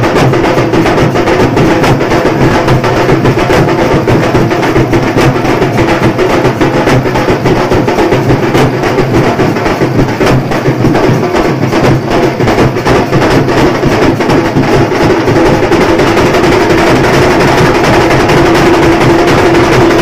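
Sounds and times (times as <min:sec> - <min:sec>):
loud fast drumming: 0:00.0 - 0:20.0.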